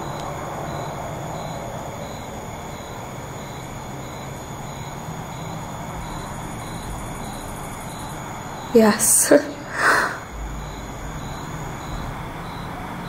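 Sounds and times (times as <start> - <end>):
crickets chirping: 0.0 - 13.0
low rumble and hiss: 0.0 - 13.0.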